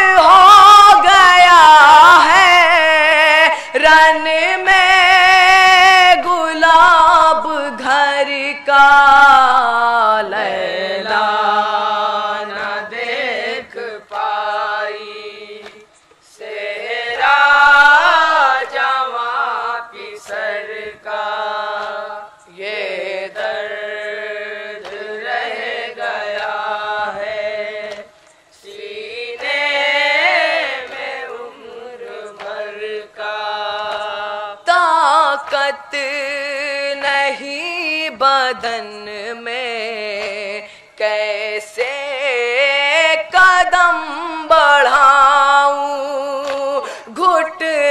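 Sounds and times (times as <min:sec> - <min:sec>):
boys chanting through microphones: 0:00.0 - 0:45.8.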